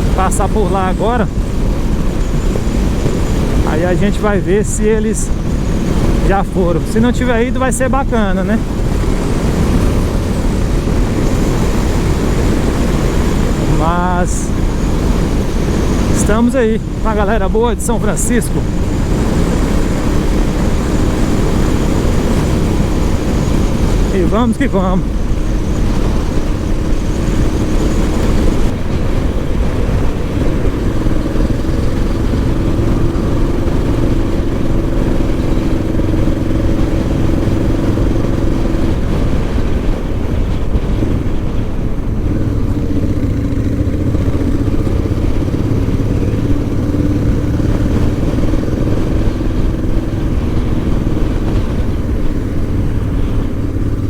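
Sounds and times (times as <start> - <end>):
motorcycle engine cruising: 0.0 - 54.0
wind rush over microphone: 0.0 - 54.0.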